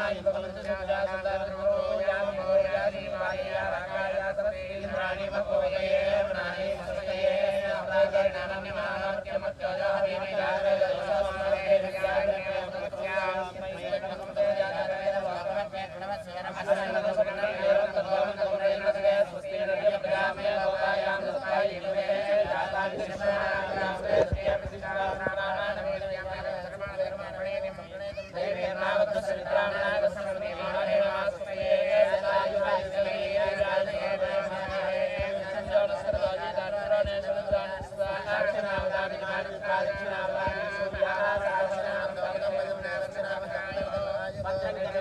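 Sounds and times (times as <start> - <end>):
men chanting together: 0.0 - 45.0.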